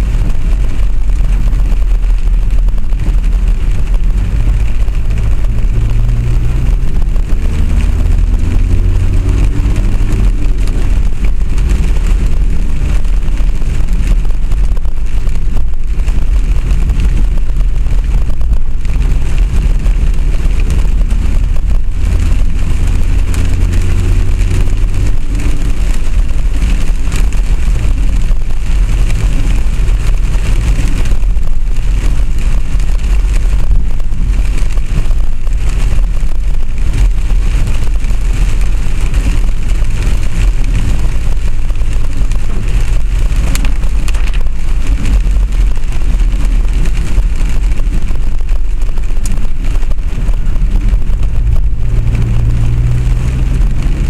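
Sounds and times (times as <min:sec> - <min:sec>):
vehicle rumble from on board: 0:00.0 - 0:54.0.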